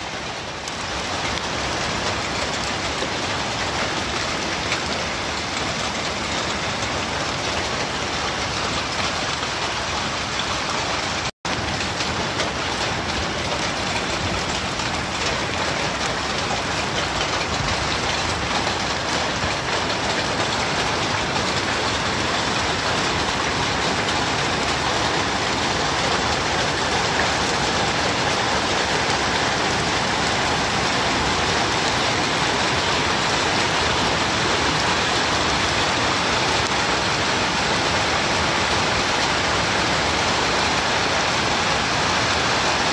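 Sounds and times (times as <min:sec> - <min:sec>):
rain and hail falling: 0:00.0 - 0:42.9.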